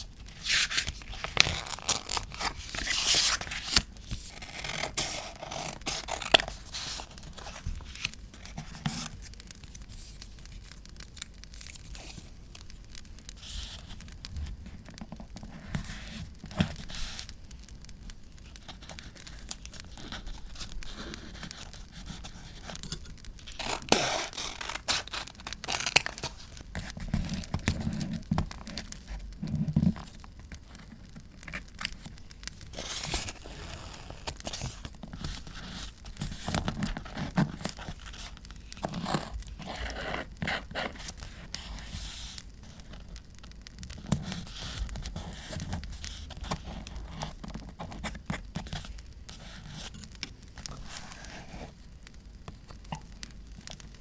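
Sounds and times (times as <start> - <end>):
paper rustling: 0.0 - 12.4, 18.4 - 30.1, 30.7 - 43.2, 44.0 - 51.8
paper crinkling and tearing: 0.0 - 43.2, 43.8 - 51.8.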